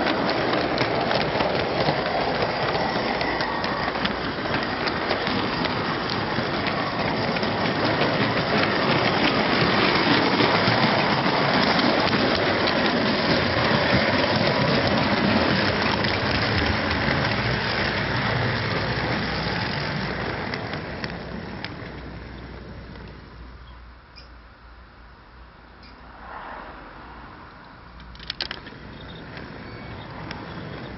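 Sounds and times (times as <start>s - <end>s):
model train wheels rattling on rail: 0.0s - 23.6s, 28.0s - 30.9s.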